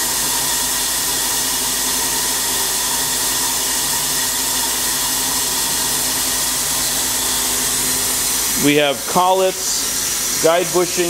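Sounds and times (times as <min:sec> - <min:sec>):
lathe hissing: 0:00.0 - 0:11.0.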